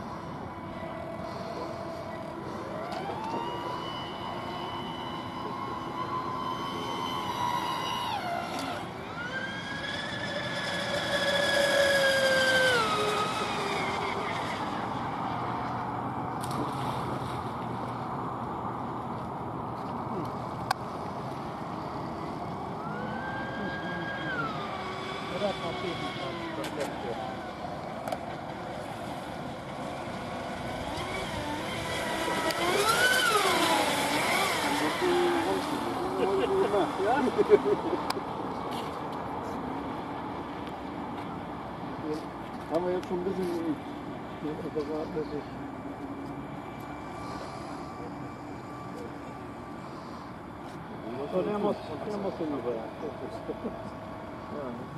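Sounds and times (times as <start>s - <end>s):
speedboat motor whining: 0.0s - 54.9s.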